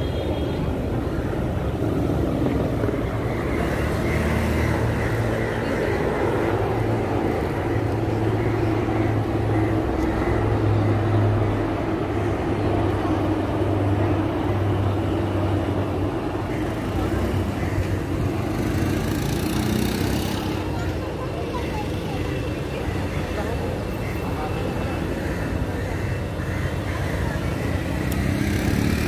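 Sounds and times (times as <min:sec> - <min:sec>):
helicopters flying over: 0:00.0 - 0:29.0.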